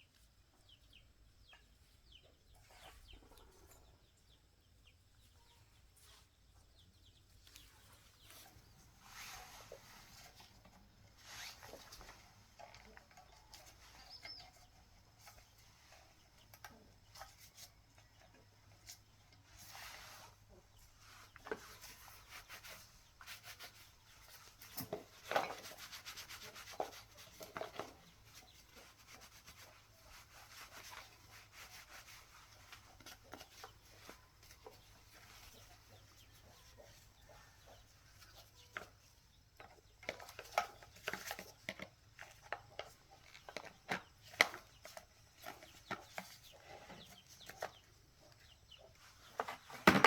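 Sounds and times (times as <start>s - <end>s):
rubbing and scraping on motor parts: 7.4s - 50.0s.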